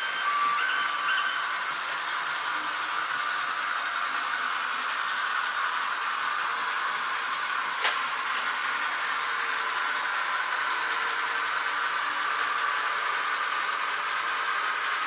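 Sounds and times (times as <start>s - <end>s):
model train motors whirring: 0.0s - 15.0s.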